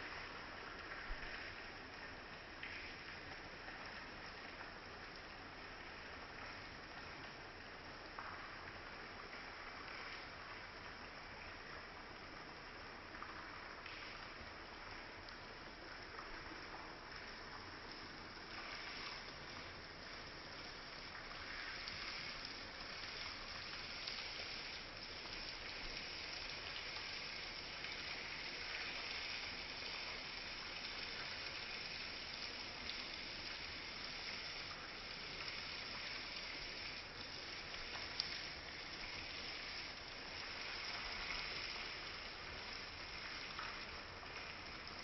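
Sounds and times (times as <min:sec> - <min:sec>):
stream babbling and trickling: 0:00.0 - 0:45.0.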